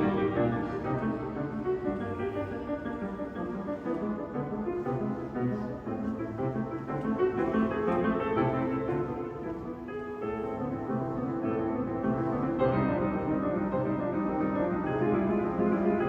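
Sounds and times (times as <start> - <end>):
cello: 0.0 - 16.0
piano: 0.0 - 16.0
violin: 0.0 - 16.0.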